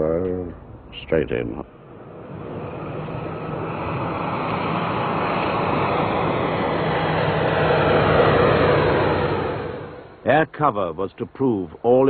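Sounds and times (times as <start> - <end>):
aircraft engines droning: 0.0 - 12.0
rushing noise: 0.4 - 10.5.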